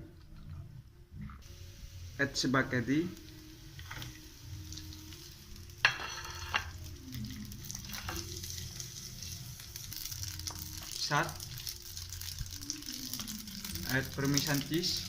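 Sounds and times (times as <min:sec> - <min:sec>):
food sizzling in a pan: 0:01.4 - 0:15.0.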